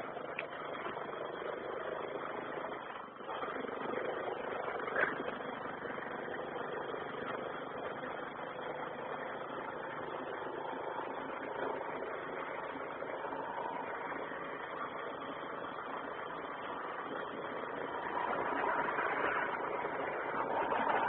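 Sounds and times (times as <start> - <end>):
vehicle engine: 0.0 - 21.0.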